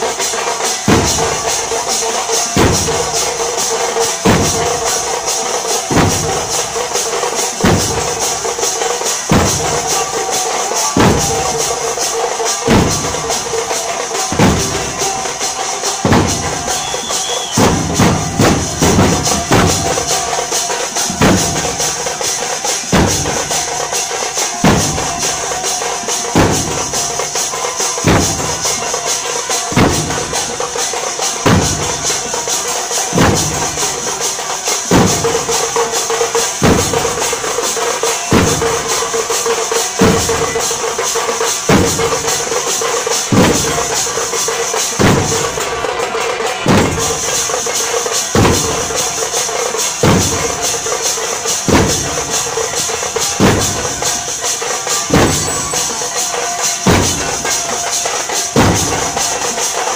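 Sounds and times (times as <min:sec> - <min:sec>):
barrel drums beaten with sticks: 0:00.0 - 0:59.9
bright jingling: 0:00.1 - 0:59.9.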